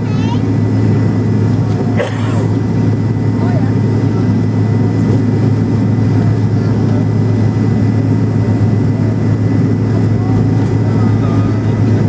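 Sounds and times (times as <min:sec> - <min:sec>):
faint high engine whine: 0:00.0 - 0:12.0
jet engines droning at taxi power: 0:00.0 - 0:12.0.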